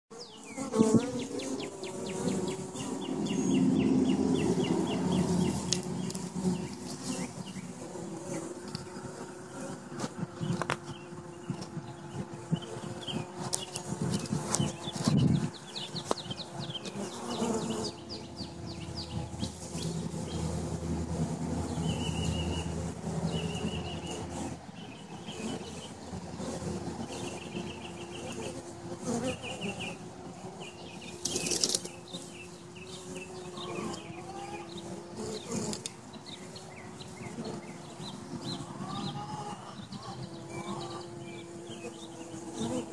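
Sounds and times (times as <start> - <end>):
bird chirping: 0.1 - 9.7, 10.4 - 20.4, 21.7 - 22.7, 23.3 - 26.1, 30.6 - 42.8
bees buzzing: 0.1 - 42.9.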